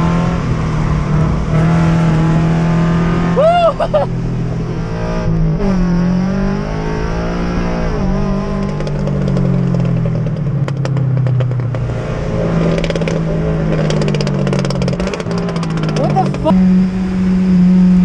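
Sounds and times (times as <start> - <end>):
car engine pulling: 0.0 - 18.0.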